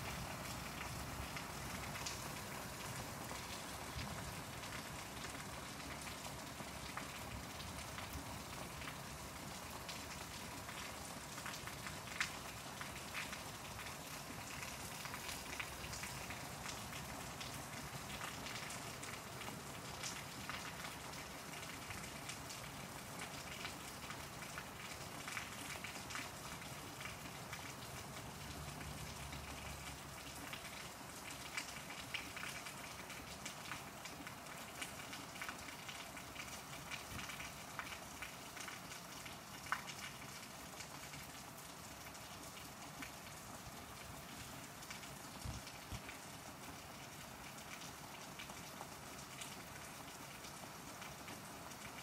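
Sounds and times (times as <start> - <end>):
raindrops ticking on surfaces: 0.0 - 52.0
steady rain: 0.0 - 52.0.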